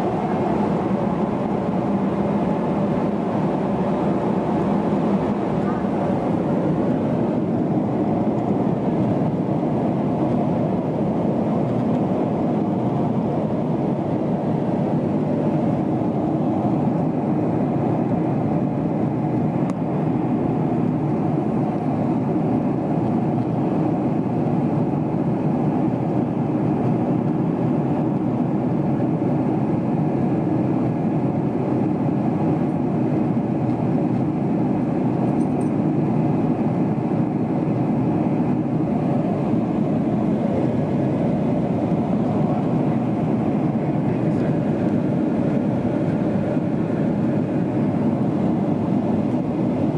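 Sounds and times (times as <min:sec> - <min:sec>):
airplane cabin airflow and engine noise: 0:00.0 - 0:49.9.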